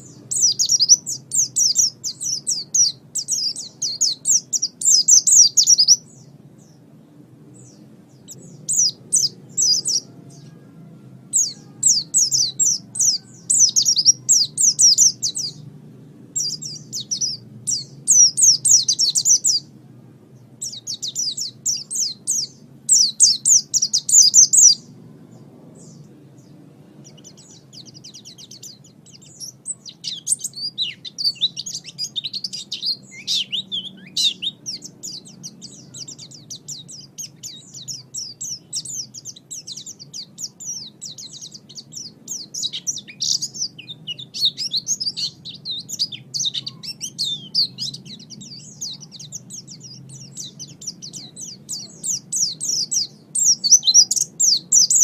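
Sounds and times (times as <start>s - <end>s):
faint low hum: 0.0s - 55.0s
songbird chirping and twittering: 0.0s - 55.0s.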